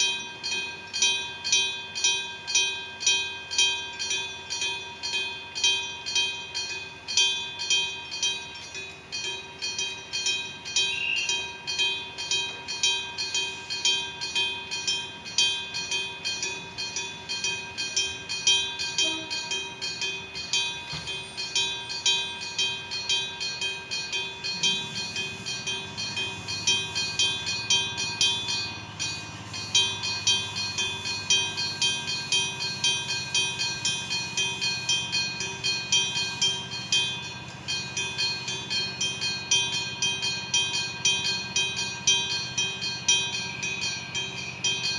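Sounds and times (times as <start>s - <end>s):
level crossing bell ringing: 0.0s - 44.9s
low train hum: 0.0s - 44.9s.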